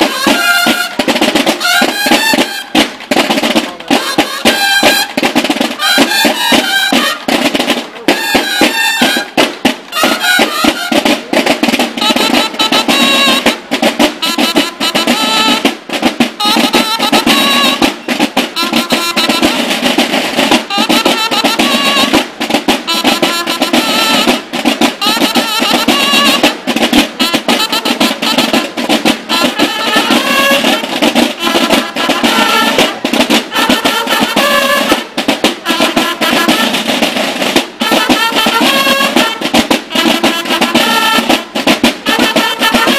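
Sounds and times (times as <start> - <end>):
held bugle notes: 0.0 - 42.9
snare drums rolling: 0.0 - 42.9.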